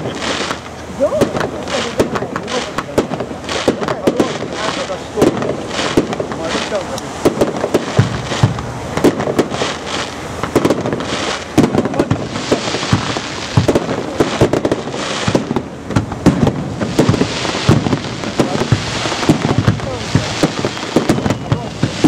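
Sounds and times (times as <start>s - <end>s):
fireworks bursting with loud bangs: 0.0s - 22.0s
fireworks crackling: 0.0s - 22.0s.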